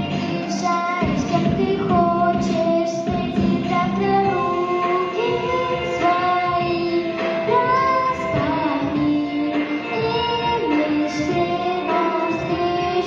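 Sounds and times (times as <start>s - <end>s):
backing track: 0.0s - 13.0s.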